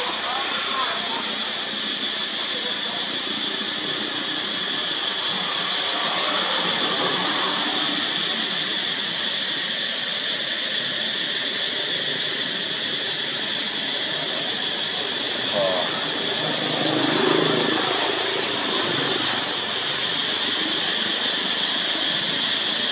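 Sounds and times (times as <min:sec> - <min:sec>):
forest insects droning: 0:00.0 - 0:22.9.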